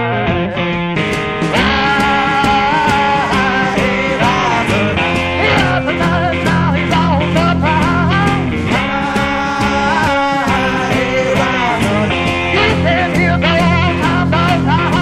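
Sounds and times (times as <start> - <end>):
rock song with guitar and singing: 0.0 - 15.0.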